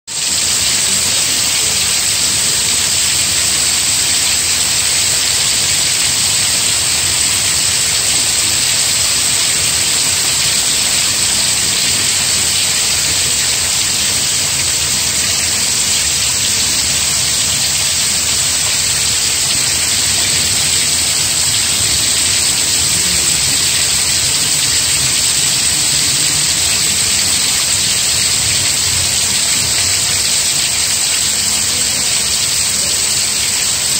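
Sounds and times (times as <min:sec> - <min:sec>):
rain falling steadily: 0:00.1 - 0:33.9.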